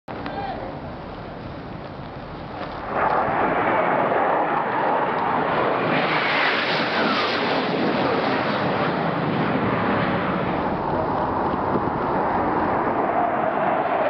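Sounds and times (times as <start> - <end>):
wind buffeting microphone: 0.1 - 14.0
jet low pass roar: 0.9 - 14.0.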